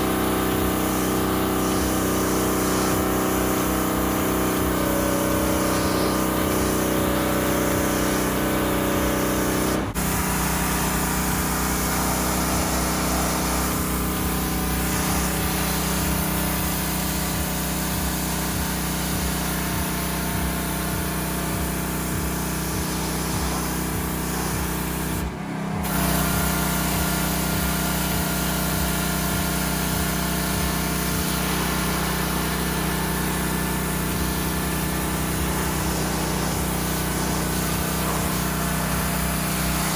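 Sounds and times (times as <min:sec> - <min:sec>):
pressure washer motor humming: 0:00.0 - 0:39.9
water jet spraying: 0:00.0 - 0:39.9.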